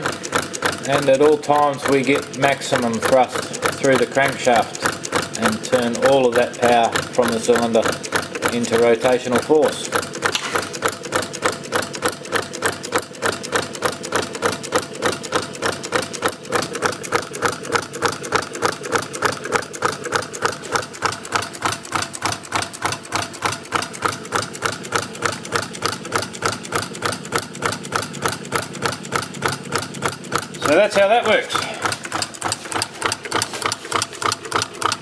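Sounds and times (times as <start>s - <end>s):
small engine clattering: 0.0s - 35.0s.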